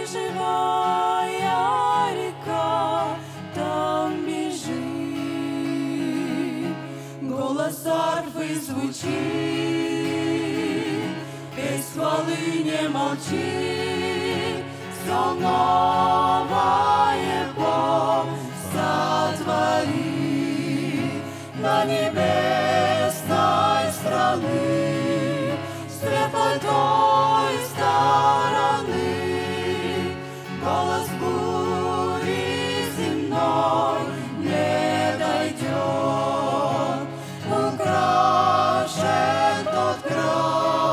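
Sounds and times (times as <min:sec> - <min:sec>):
group singing gospel in harmony: 0:00.0 - 0:40.9.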